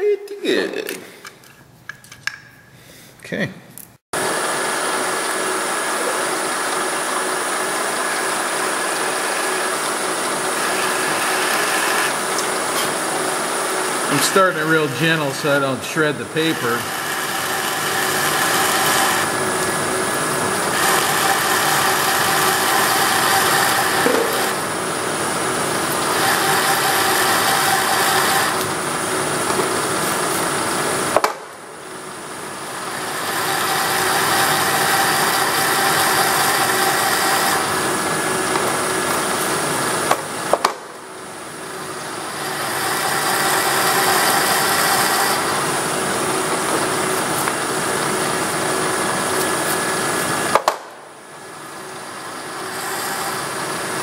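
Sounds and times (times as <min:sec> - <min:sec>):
milling machine cutting plastic: 0:04.2 - 0:31.4, 0:32.5 - 0:40.8, 0:41.8 - 0:50.8, 0:51.9 - 0:54.0.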